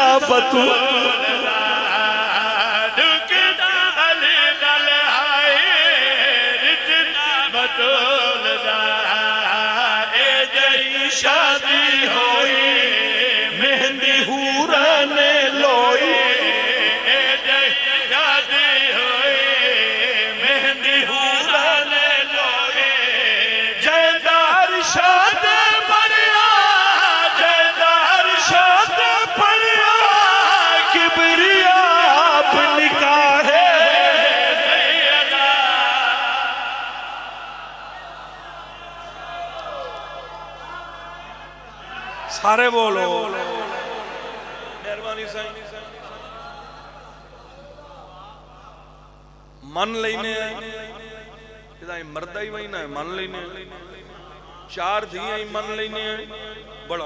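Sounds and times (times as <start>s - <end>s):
man chanting over loudspeaker: 0.0s - 57.0s.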